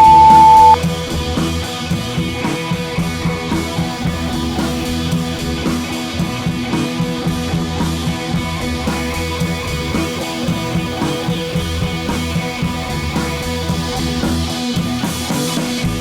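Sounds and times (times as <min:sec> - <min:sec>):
guitar music with drums: 0:00.0 - 0:16.0.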